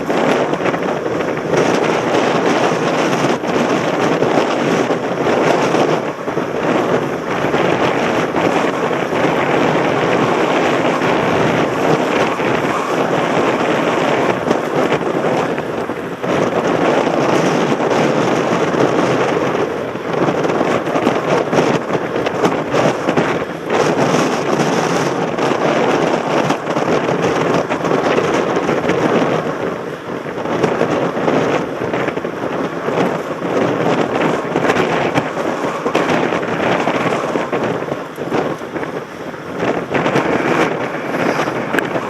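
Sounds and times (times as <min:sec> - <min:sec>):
bike rattling: 0:00.0 - 0:42.0
bike tyres crackling on rough track: 0:00.0 - 0:42.0
wind on microphone: 0:00.0 - 0:42.0.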